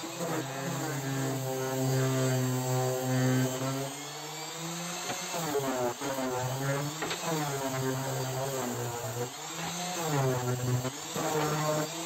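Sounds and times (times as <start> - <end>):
orbital sander on wood: 0.0 - 12.0.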